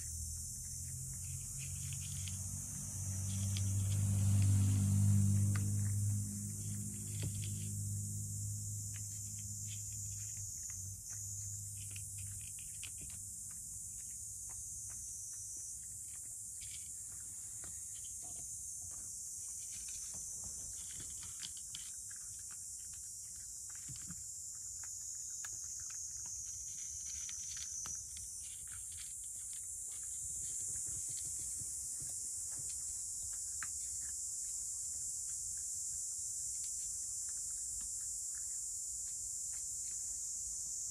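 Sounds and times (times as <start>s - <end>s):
cat crunching dry kibble: 0.0s - 40.8s.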